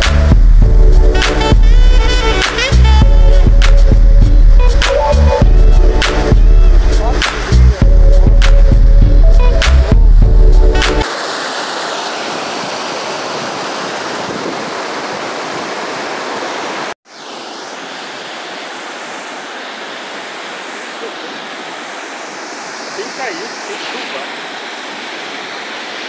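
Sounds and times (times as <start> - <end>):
waterfall and river rushing: 1.1 - 10.0, 10.6 - 26.0.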